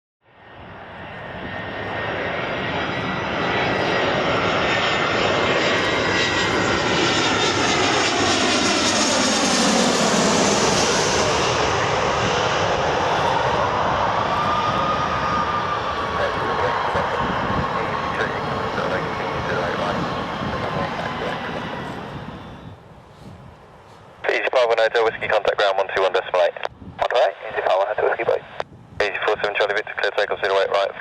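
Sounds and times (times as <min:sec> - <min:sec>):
jet engines roaring: 0:00.3 - 0:31.0.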